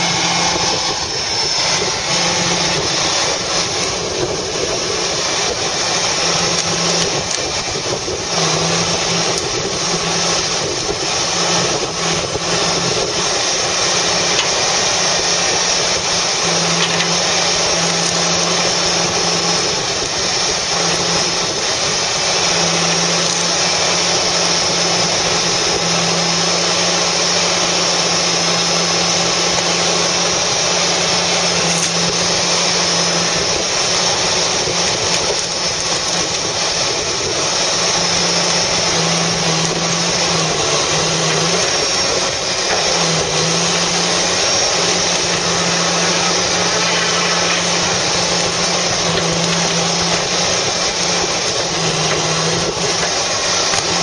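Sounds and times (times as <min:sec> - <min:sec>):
diesel engine and hydraulics: 0:00.0 - 0:54.0
low hum: 0:00.0 - 0:54.0.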